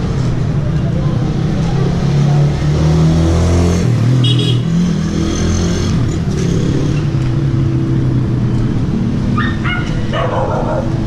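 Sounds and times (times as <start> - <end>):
street traffic engine hum: 0.0 - 11.0.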